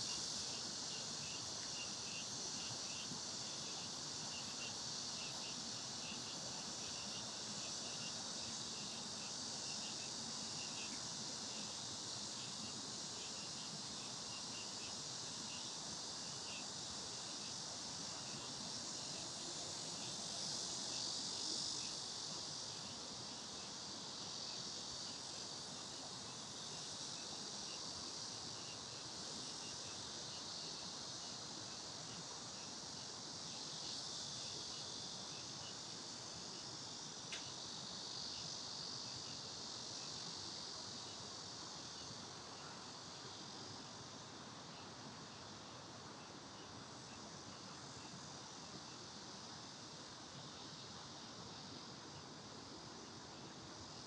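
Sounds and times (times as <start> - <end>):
insects buzzing: 0.0 - 54.0.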